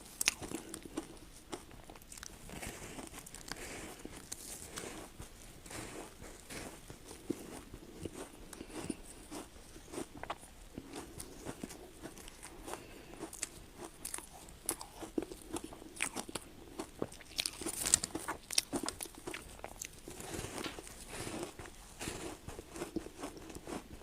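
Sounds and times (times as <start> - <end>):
ice crunching being chewed: 0.0 - 24.0.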